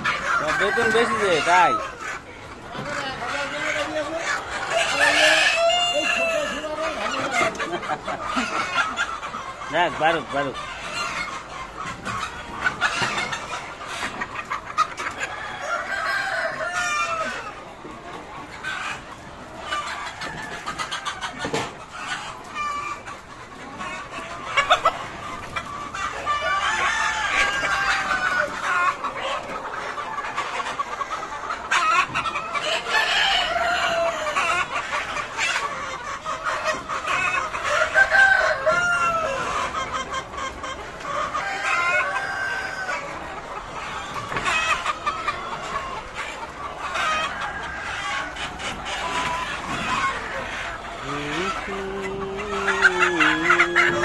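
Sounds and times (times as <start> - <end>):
chickens clucking and calling: 0.0 - 54.0.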